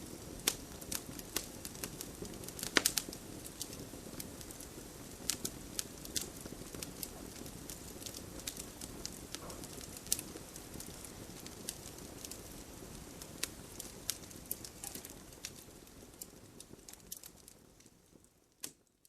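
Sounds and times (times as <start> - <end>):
low rush of flames: 0.0 - 18.9
wood crackling and popping: 0.0 - 19.0.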